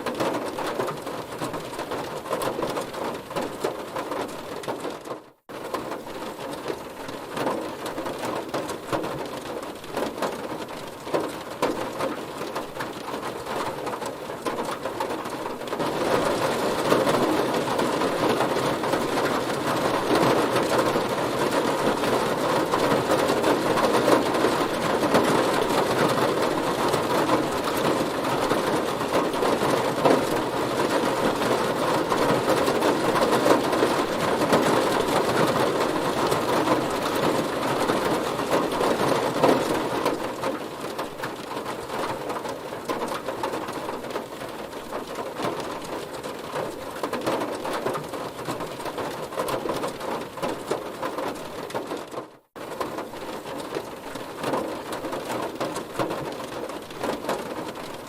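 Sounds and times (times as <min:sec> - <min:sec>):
heavy rain on a car: 0:00.0 - 0:58.0.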